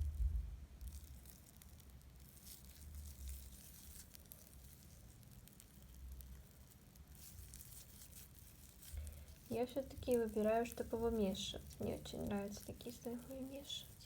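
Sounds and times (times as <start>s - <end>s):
slime crackling and squishing: 0.0s - 14.0s.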